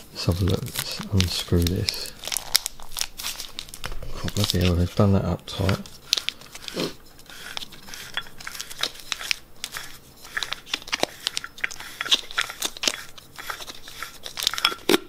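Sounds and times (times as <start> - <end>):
plastic wrap crinkling: 0.0 - 15.0.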